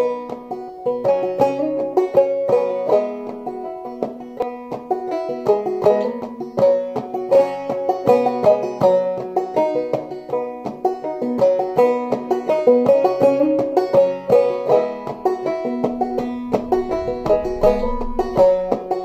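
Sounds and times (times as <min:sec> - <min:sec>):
banjo plucked notes: 0:00.0 - 0:19.0.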